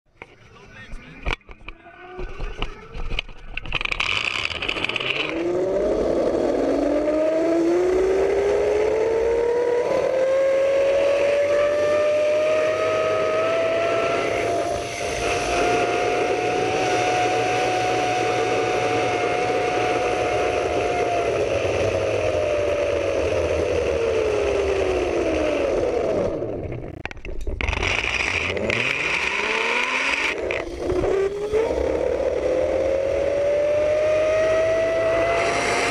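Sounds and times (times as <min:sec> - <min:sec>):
zip line pulley whine: 0:02.1 - 0:35.9.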